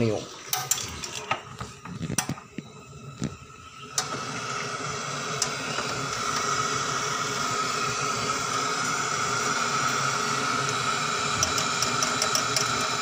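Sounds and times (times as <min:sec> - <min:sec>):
welding torch flame hissing: 0:00.0 - 0:13.0.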